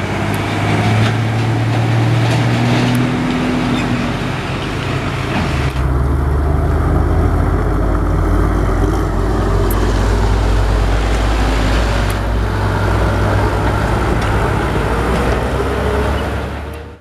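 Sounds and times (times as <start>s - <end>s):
truck diesel engine passing: 0.0s - 17.0s.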